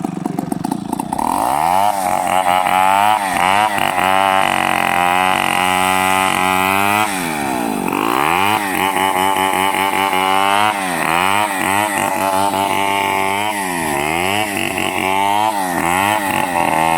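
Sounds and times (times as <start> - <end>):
chainsaw cutting wood: 0.0 - 16.9.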